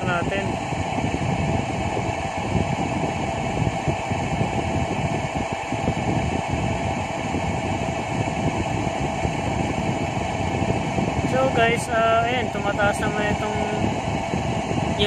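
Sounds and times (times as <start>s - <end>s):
mechanical hum with rushing: 0.0s - 15.0s.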